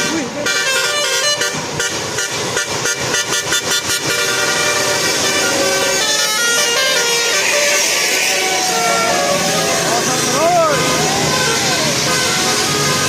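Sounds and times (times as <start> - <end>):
musical air horn playing a tune: 0.0 - 13.0.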